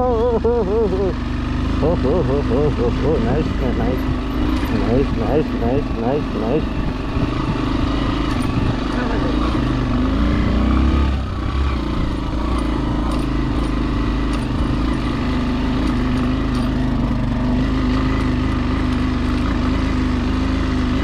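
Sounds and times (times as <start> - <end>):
small motorcycle engine: 0.0 - 21.0.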